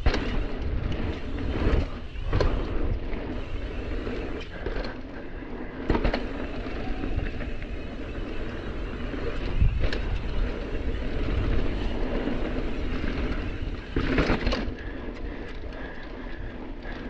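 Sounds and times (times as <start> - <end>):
bike clattering over bumps: 0.0 - 17.0
bike tyre noise on dirt: 0.0 - 17.0
wind buffeting microphone: 0.0 - 17.0.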